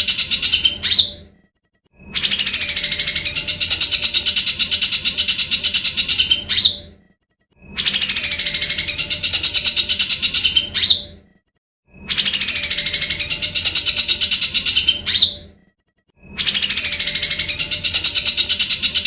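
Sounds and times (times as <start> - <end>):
bird buzzy trill: 0.0 - 19.0.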